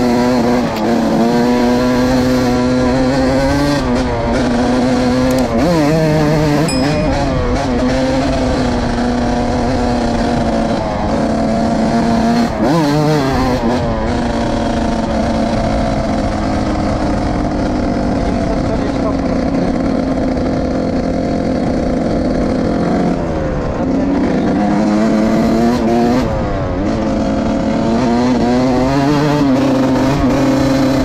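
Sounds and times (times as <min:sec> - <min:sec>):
two-stroke engine revving high: 0:00.0 - 0:31.0.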